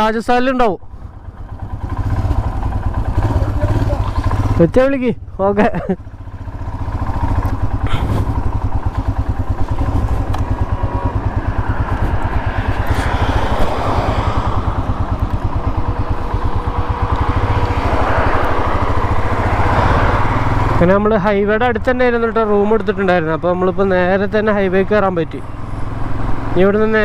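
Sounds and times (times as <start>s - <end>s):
wind and road noise: 0.0s - 27.0s
motorcycle engine throbbing: 0.4s - 27.0s.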